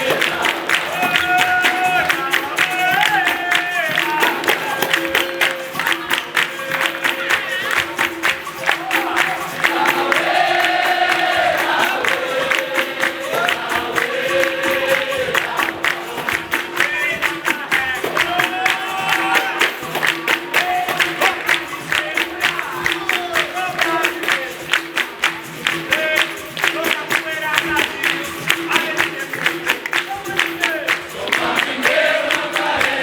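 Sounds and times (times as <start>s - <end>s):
group singing: 0.0s - 33.0s
hand claps: 0.0s - 33.0s
percussion strikes: 0.0s - 33.0s.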